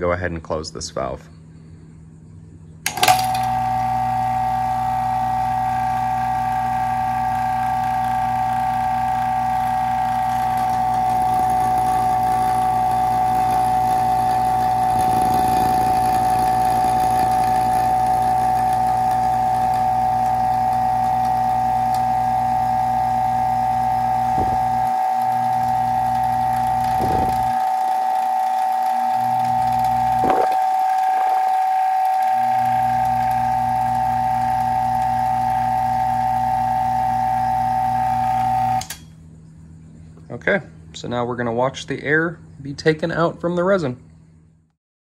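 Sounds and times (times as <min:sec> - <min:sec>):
vacuum pump humming and whining: 0:00.0 - 0:44.8.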